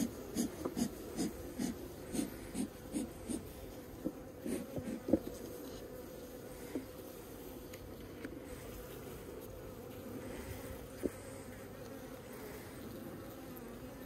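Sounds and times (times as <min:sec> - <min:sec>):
bees humming: 0:00.0 - 0:14.0.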